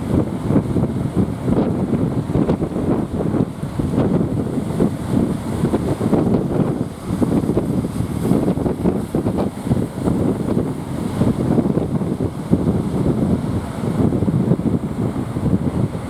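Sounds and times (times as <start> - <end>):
waves breaking: 0.0 - 16.0
wind buffeting microphone: 0.0 - 16.0.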